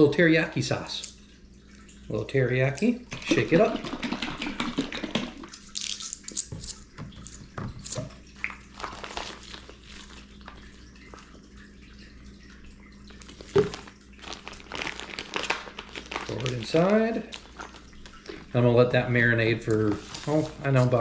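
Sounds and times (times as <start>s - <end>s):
drips and small splashes: 0.0s - 21.0s.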